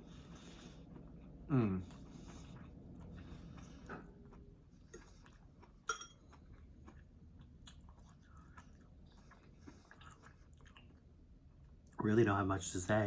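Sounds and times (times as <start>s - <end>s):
chewing and mouth sounds: 0.0s - 12.4s.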